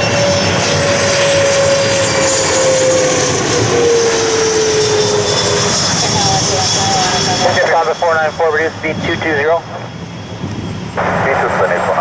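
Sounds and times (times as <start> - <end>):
jet plane passing close: 0.0 - 12.0.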